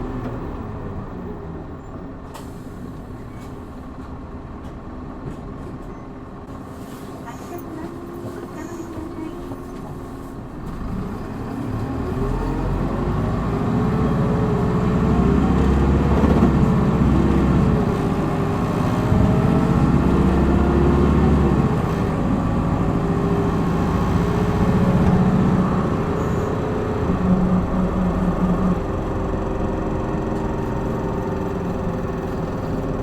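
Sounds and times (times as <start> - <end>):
bus diesel engine accelerating: 0.0 - 33.0.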